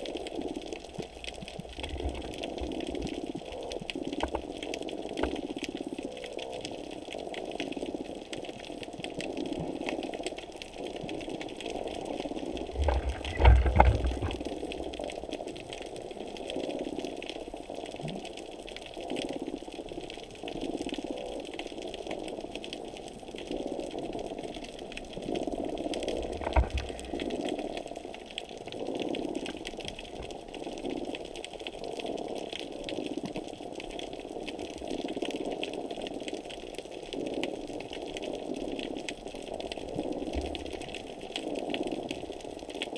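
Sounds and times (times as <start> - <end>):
muffled underwater water rush: 0.0 - 42.9.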